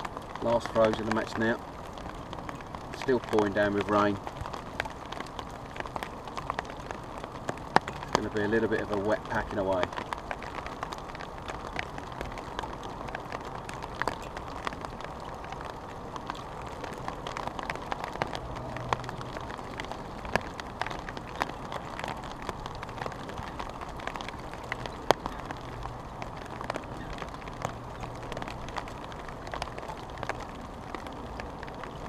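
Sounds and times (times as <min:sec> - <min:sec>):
heavy rain on umbrella: 0:00.0 - 0:32.0.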